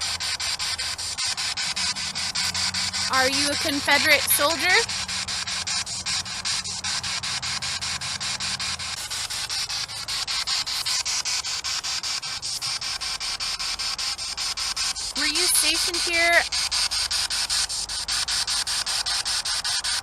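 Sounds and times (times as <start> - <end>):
low hum: 0.0 - 16.9
radio scanning clicks: 0.0 - 20.0
radio static hiss: 0.0 - 20.0.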